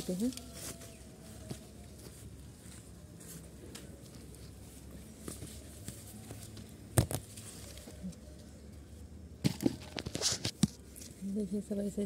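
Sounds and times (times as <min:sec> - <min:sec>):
rustling of leaves and stems: 0:00.0 - 0:12.0.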